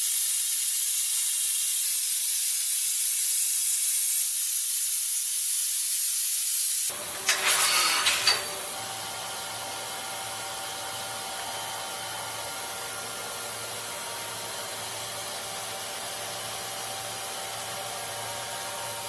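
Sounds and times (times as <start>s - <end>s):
machine running with hiss: 0.0s - 19.0s.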